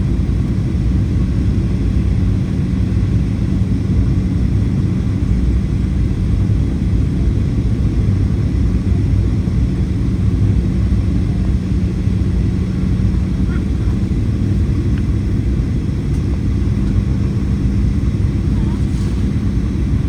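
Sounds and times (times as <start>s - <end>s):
airplane cabin rumble: 0.0s - 20.0s
steady low hum: 0.0s - 20.0s.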